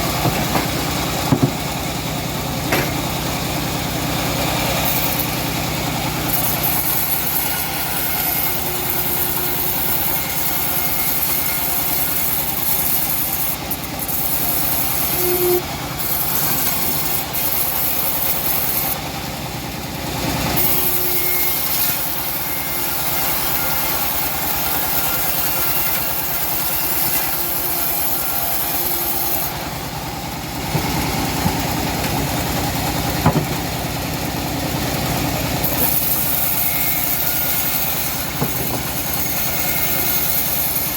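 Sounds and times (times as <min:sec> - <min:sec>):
bandsaw mill engine running: 0:00.0 - 0:40.9.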